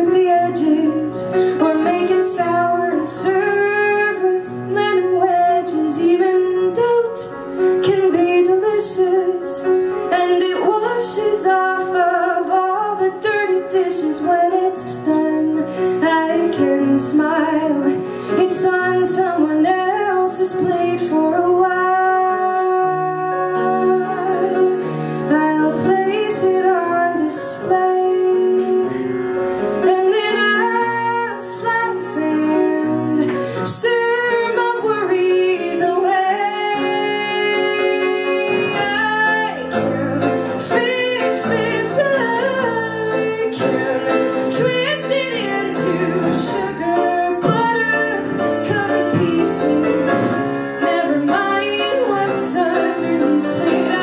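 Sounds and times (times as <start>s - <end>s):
woman singing a ballad: 0.0s - 29.1s, 29.7s - 54.0s
piano accompaniment: 0.0s - 54.0s.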